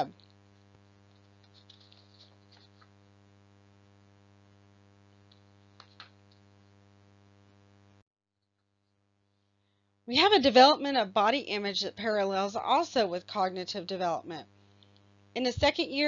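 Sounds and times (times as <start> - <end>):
faint electrical hum: 0.0 - 8.0, 9.3 - 16.0.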